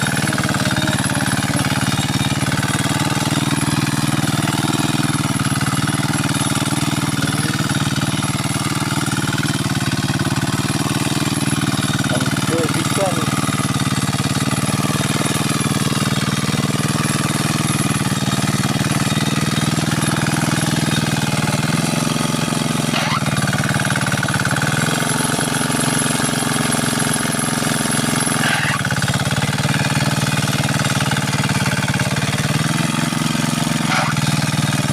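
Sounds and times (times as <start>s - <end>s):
hand tractor engine running: 0.0s - 34.9s.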